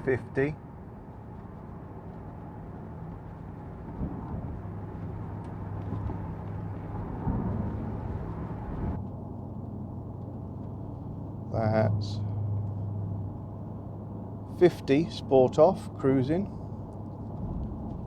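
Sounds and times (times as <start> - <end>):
car engine drone from cabin: 0.0 - 17.3
road and tyre noise: 0.0 - 18.0.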